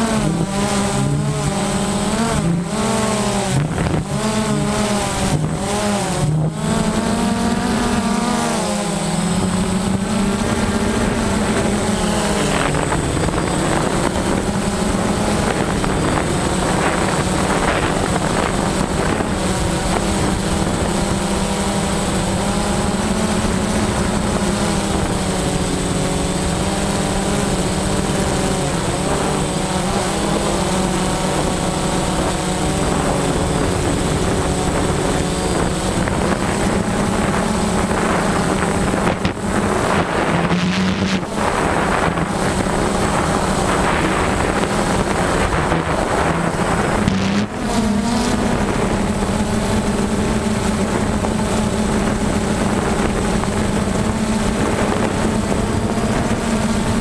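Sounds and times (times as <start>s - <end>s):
drone propellers buzzing: 0.0s - 57.0s
wind buffeting microphone: 0.0s - 57.0s.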